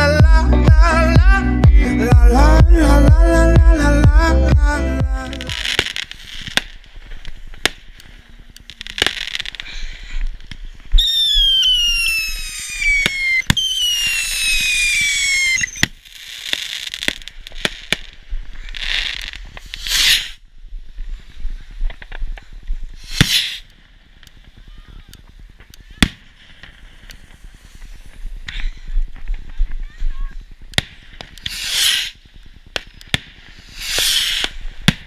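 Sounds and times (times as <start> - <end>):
firework crackling bursts: 5.2 - 35.0
firework cracks and pops: 5.3 - 35.0
firework hiss and whistles: 5.5 - 35.0.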